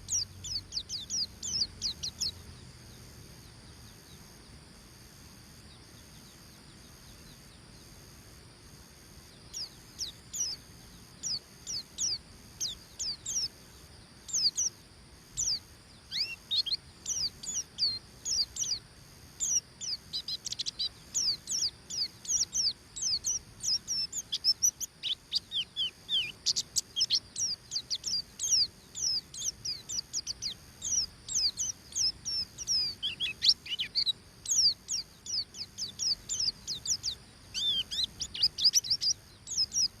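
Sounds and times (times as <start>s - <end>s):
bird singing high chirps: 0.0s - 4.3s, 9.4s - 13.6s, 14.2s - 40.0s.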